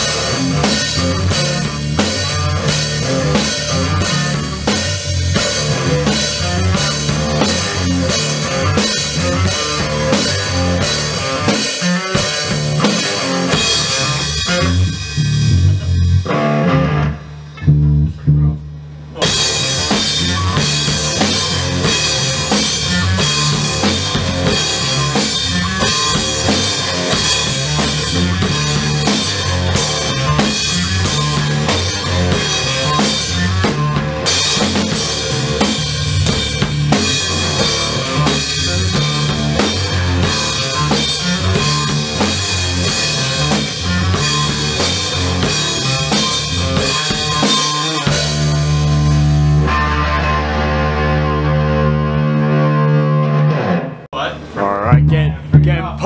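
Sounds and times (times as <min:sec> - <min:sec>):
bass drum beat: 0:00.0 - 0:49.9
rock music with drums and guitars: 0:00.0 - 0:54.1.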